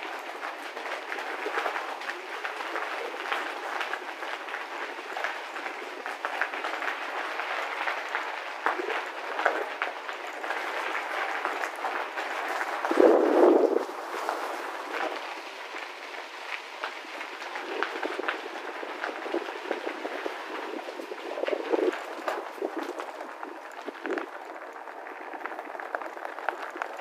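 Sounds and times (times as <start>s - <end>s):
bicycle tyres rolling on gravel: 0.0s - 27.0s.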